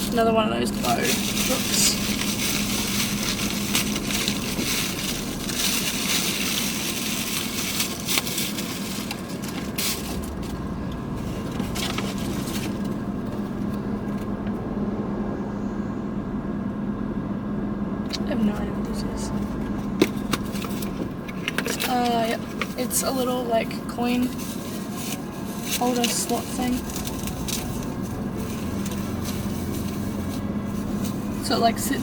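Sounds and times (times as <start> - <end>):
plastic packaging crinkling: 0.0 - 13.6, 19.9 - 32.0
steady low hum: 0.0 - 32.0.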